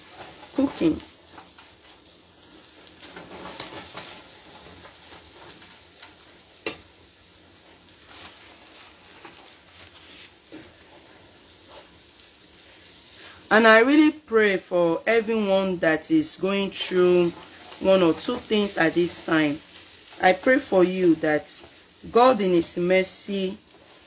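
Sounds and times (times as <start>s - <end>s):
food sizzling in frying pan: 0.0s - 24.0s.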